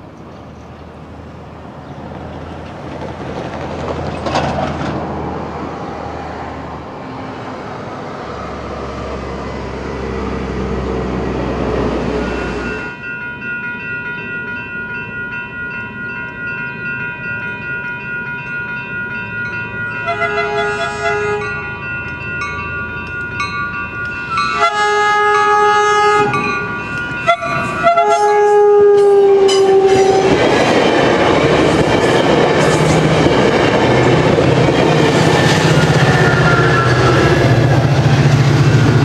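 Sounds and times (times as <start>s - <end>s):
diesel train engine drone: 0.0s - 39.0s
rail and wheel noise: 0.0s - 39.0s.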